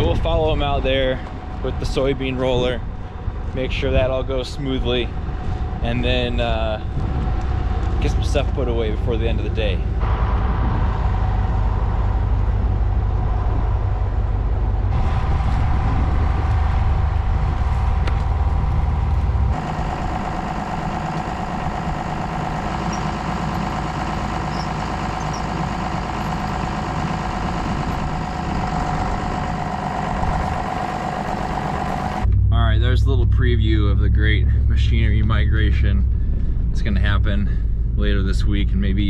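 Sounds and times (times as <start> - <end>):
engine deep rumble: 0.0 - 39.0.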